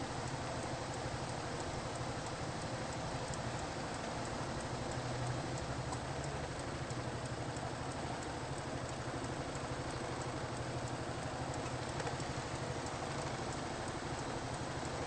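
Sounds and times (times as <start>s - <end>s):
faint ticking: 0.1s - 15.0s
vehicle engine idling: 0.1s - 15.0s.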